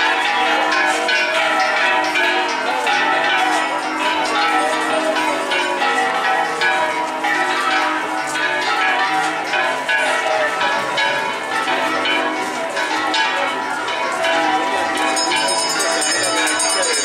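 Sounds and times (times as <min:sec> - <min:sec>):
bells ringing in a peal: 0:00.0 - 0:17.0.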